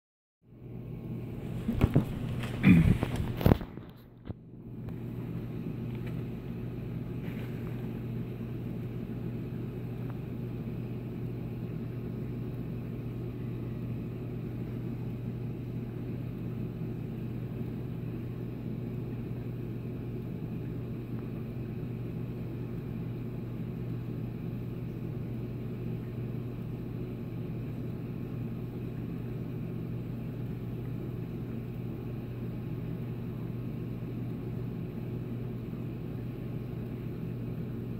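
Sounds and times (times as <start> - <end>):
aquarium pumps humming: 0.5 - 37.9.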